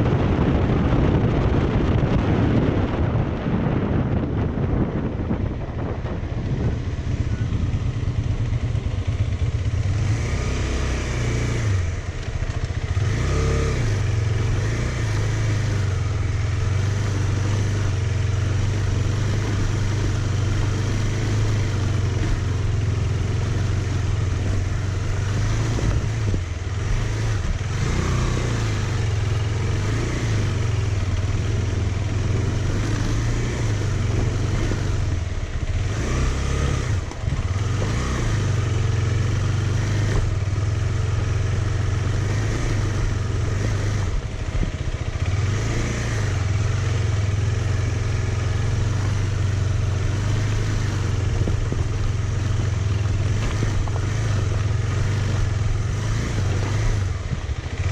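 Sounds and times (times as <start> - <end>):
motorcycle engine running: 0.0 - 57.9
road noise: 0.0 - 57.9
wind noise: 0.0 - 57.9.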